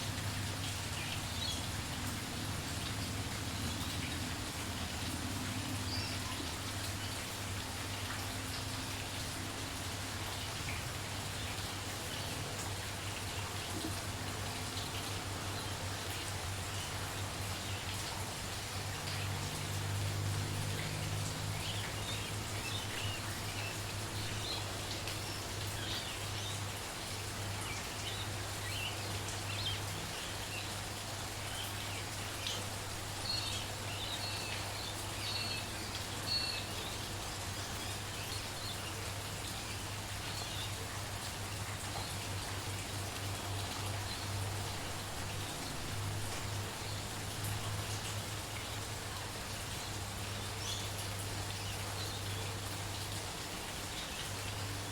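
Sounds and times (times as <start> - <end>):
light rain pattering: 0.0 - 54.9.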